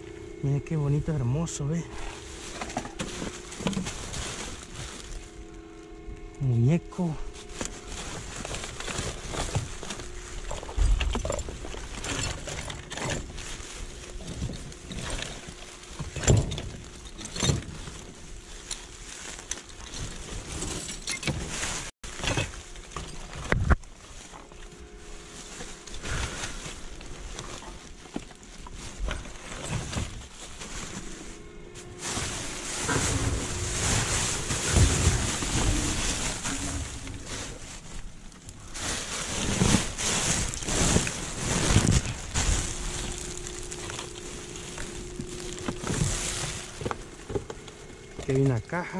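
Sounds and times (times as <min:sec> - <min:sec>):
plastic bags rustling: 0:00.0 - 0:48.9.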